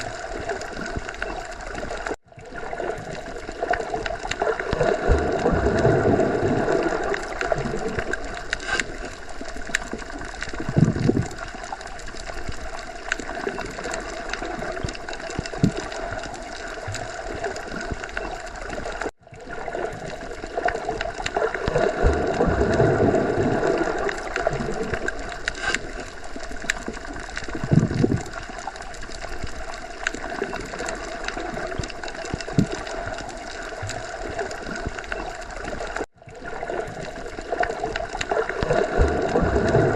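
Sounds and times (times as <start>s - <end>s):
bubbling gurgles: 0.0s - 39.9s
underwater watery hiss and rumble: 0.0s - 39.9s.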